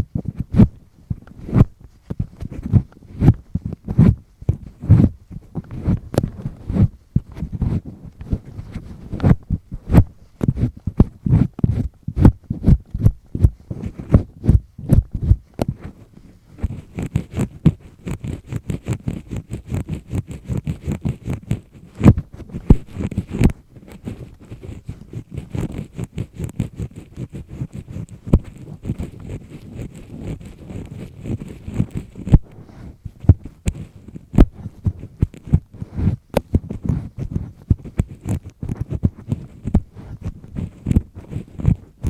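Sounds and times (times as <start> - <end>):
earpick scraping in ear: 0.0 - 42.0.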